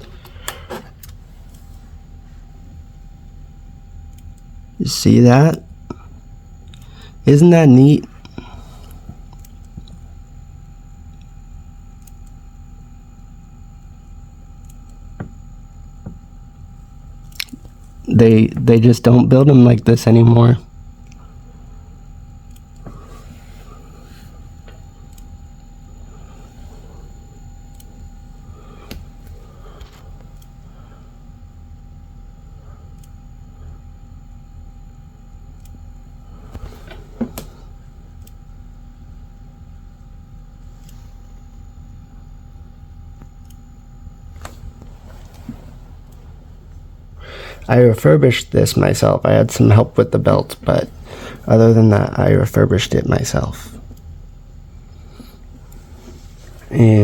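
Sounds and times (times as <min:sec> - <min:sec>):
cassette motor whirring: 0:00.0 - 0:57.0.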